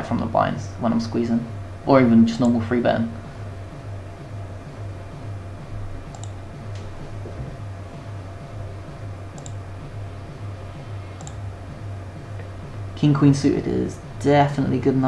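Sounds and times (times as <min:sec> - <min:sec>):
music with pulsing bass: 0:01.5 - 0:15.0.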